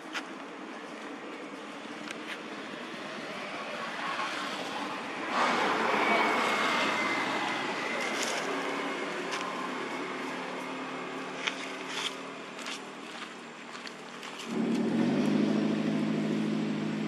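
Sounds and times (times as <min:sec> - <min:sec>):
vehicle passing by: 0:02.5 - 0:13.2, 0:13.8 - 0:17.0.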